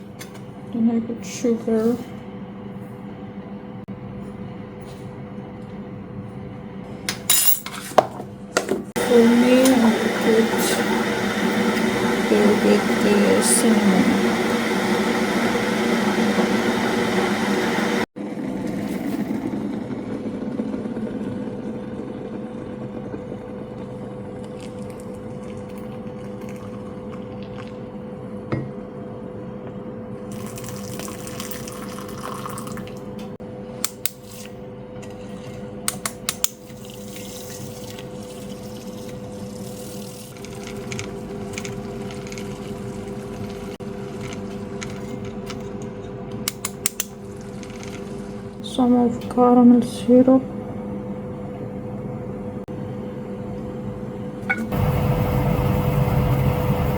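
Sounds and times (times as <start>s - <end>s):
kitchen appliance humming: 0.0s - 56.9s.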